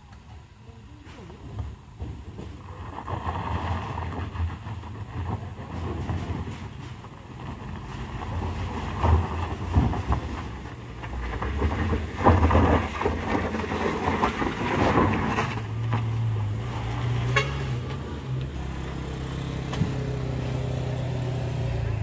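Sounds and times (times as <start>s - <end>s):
car engine pulling hard uphill: 1.8s - 22.0s
tyres scrabbling on gravel: 2.2s - 21.2s.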